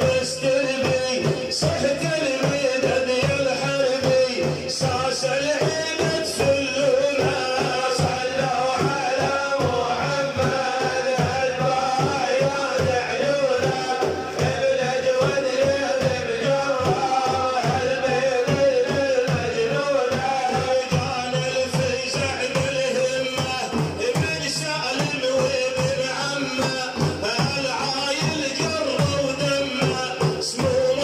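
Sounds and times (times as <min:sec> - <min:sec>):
fast drum beat: 0:00.0 - 0:31.0
man chanting: 0:00.0 - 0:31.0.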